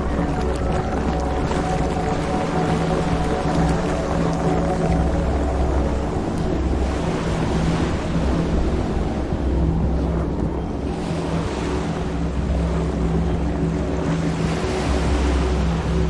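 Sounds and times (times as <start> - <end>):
boat motor humming: 0.0 - 16.0
rushing water: 0.0 - 16.0
wind noise on microphone: 0.0 - 16.0.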